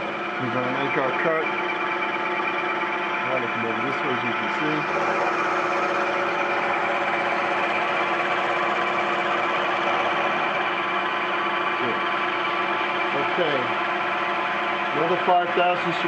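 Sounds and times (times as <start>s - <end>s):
milling machine cutting: 0.0s - 16.0s.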